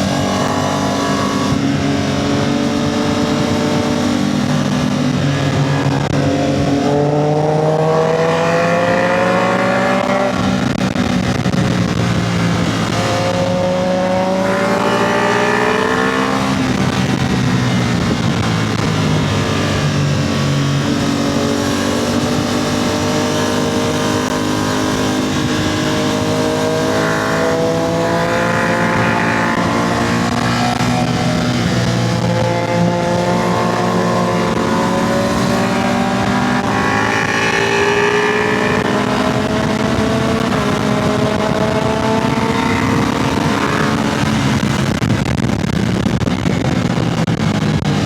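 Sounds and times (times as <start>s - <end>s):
motorcycle engine accelerating: 0.0s - 48.0s
steady rushing noise: 0.0s - 48.0s.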